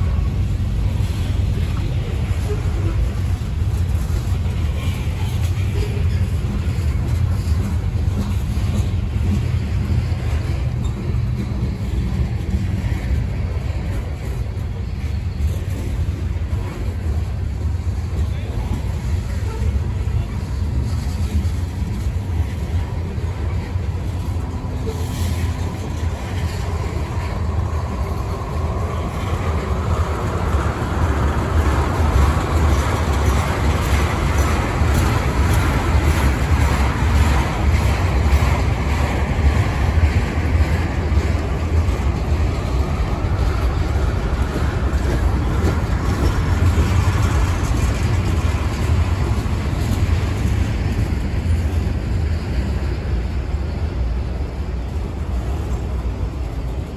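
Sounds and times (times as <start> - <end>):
broad rushing noise: 0.0 - 56.9
train wheels rumbling on rail: 0.0 - 56.9.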